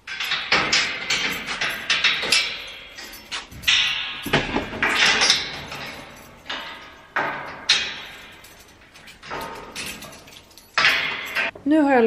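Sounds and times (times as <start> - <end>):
wire-mesh cage door rattling: 0.0 - 11.6.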